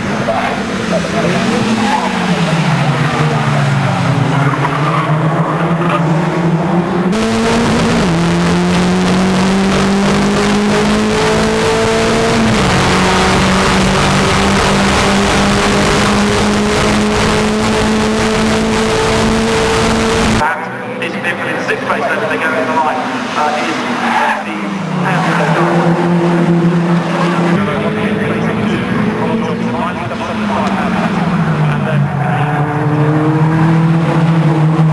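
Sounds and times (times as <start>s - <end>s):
race car engine running hard: 0.0s - 20.4s, 22.9s - 34.9s.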